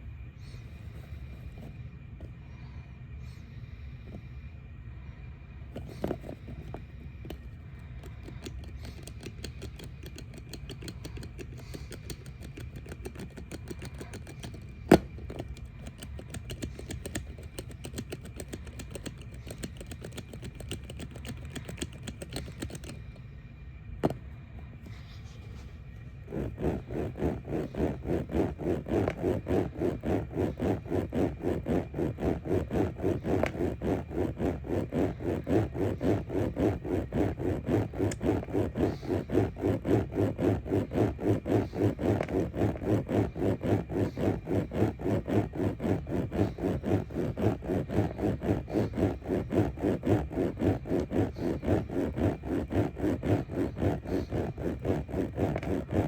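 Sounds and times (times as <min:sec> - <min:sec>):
rhythmic scraping rub: 0:05.0 - 0:56.0
fast fine clicking: 0:05.8 - 0:23.3, 0:24.9 - 0:56.0.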